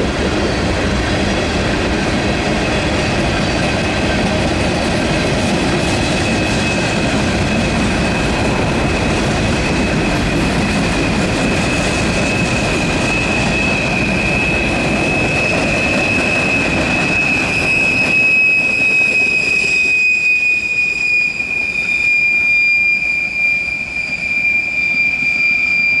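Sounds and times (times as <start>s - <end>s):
low rumble of train wheels: 0.0s - 26.0s
train wheel squeal: 0.0s - 26.0s.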